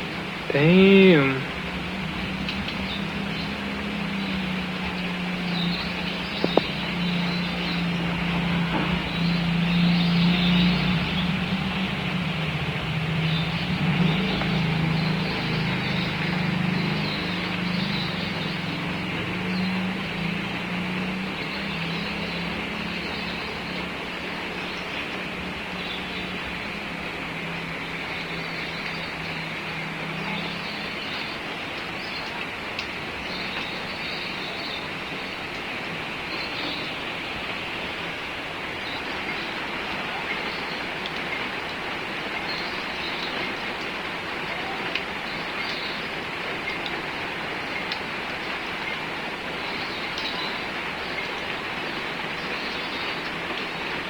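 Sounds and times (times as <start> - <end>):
low engine hum: 0.0 - 54.0
rain hissing: 0.0 - 54.0.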